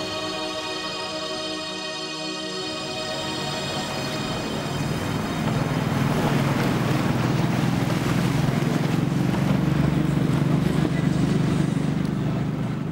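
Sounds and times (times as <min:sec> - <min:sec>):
powerboat engines droning: 0:00.0 - 0:12.9.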